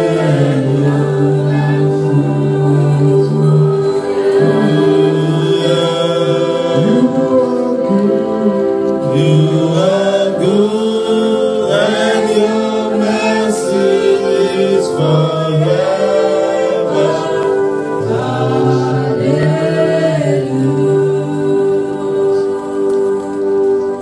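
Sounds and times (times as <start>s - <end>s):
congregation singing: 0.0s - 24.0s
sustained keyboard chords: 0.0s - 24.0s.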